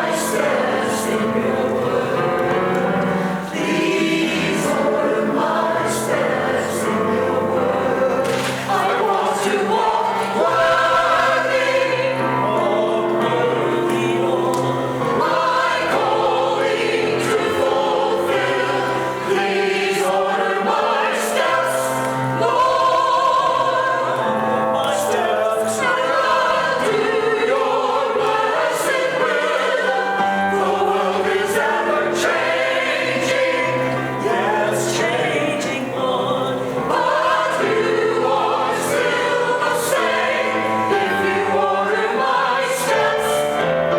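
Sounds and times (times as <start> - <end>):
church choir singing: 0.0 - 43.9.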